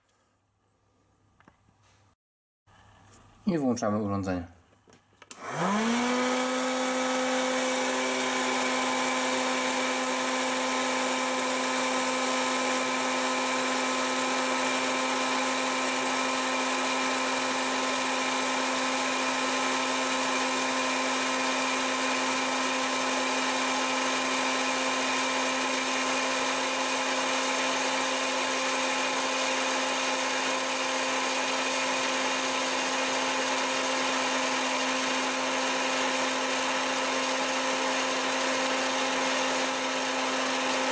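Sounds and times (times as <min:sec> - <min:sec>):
popcorn maker fan whine: 0:05.3 - 0:40.9.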